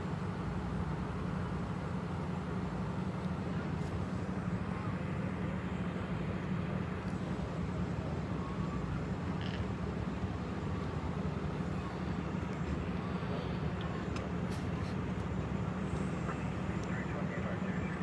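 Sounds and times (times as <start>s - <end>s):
vehicle engines droning: 0.1s - 18.0s.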